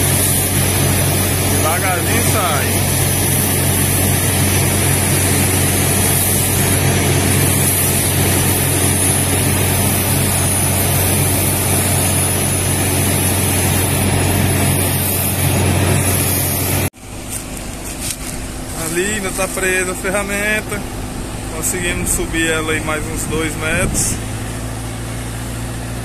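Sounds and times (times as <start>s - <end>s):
high hiss: 0.0s - 16.9s, 18.0s - 24.7s
drilling rig engine drone: 0.0s - 26.0s.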